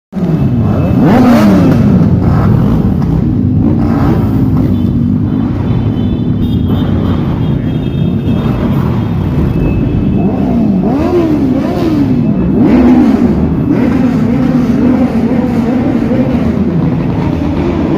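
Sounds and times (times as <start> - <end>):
motorcycle engine revving: 0.2 - 17.9
motorcycle engines running: 0.2 - 17.9.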